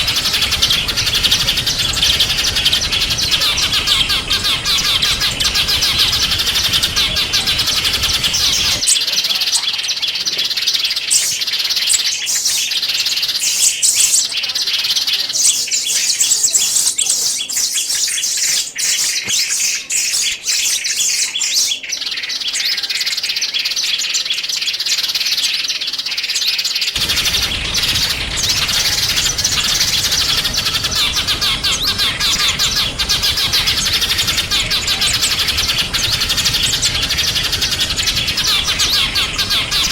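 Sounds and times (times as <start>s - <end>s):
background noise: 0.0s - 39.9s
songbirds chirping and twittering: 0.0s - 39.9s.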